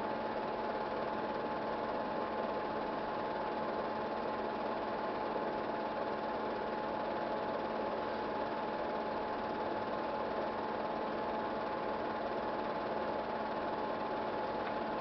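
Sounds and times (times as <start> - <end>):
film projector whirring: 0.0 - 15.0.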